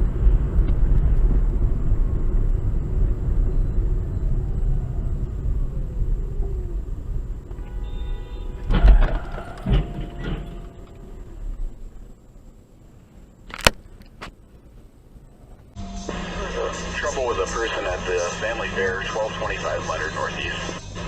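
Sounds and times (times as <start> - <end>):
road vehicle rumbling: 0.0 - 21.0.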